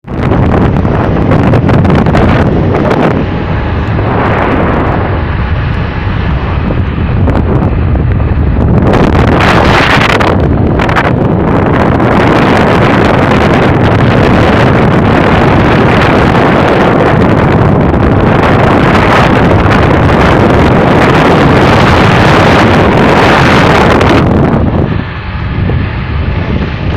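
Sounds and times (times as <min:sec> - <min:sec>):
moving vehicle rumble: 0:00.0 - 0:26.9
wind buffeting microphone: 0:00.0 - 0:26.9.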